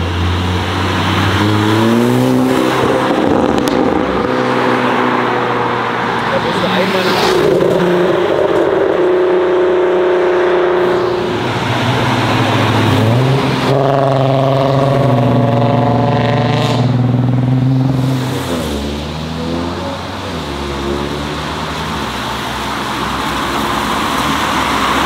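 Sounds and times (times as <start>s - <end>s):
car engine revving loudly: 0.0s - 25.0s.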